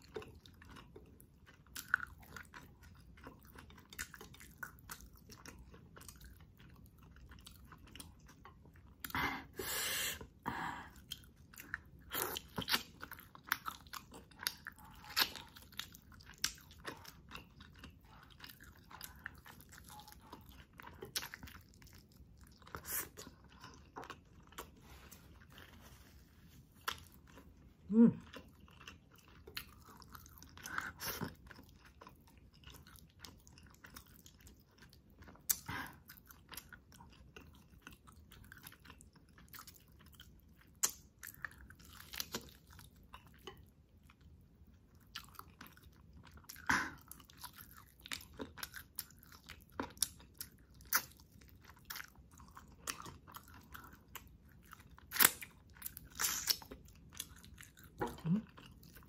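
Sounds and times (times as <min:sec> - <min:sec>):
chewing and lip smacks: 0:00.0 - 0:09.2, 0:10.2 - 0:25.8, 0:26.8 - 0:59.0.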